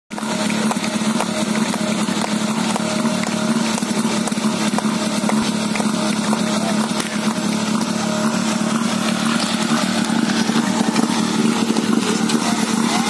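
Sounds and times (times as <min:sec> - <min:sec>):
pump engine idling: 0:00.1 - 0:13.0.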